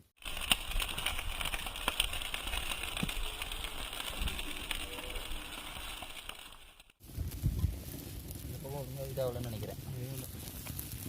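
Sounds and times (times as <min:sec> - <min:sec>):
fire hissing and crackling: 0:00.0 - 0:11.0.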